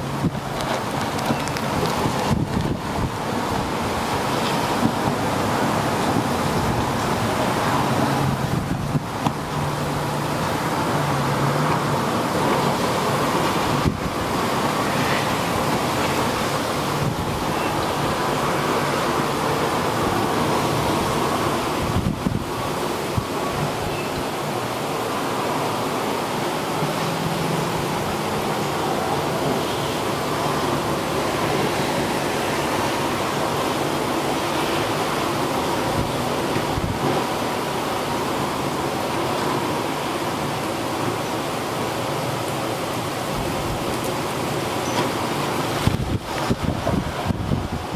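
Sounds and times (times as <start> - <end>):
gusty wind buffeting microphone: 0.0 - 39.1, 39.8 - 47.9
driving rain: 0.0 - 47.9
road traffic hum: 0.0 - 47.9.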